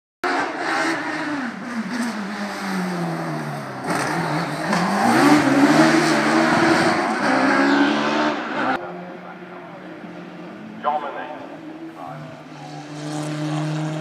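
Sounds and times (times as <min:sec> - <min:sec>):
racing car engine: 0:00.2 - 0:14.0.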